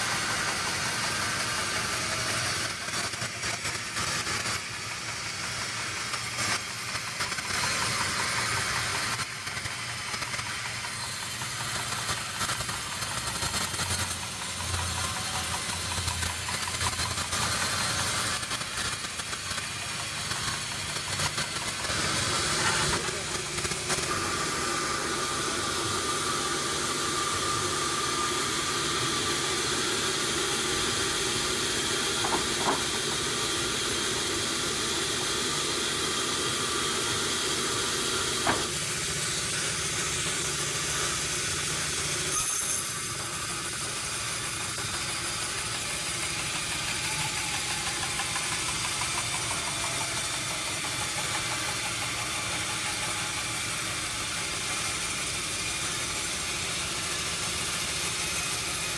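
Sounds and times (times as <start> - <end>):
sawmill saw running: 0.0 - 58.9.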